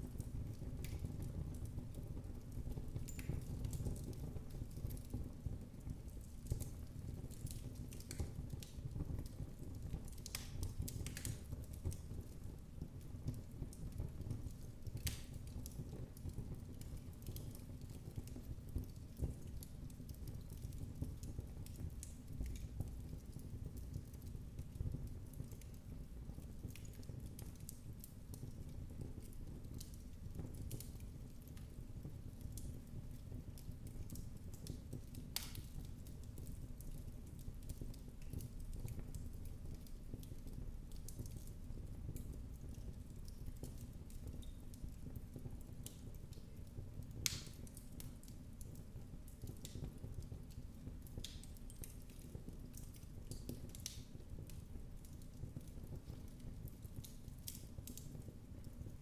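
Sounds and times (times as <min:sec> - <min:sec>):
fire pops and snaps: 0:00.0 - 0:59.0.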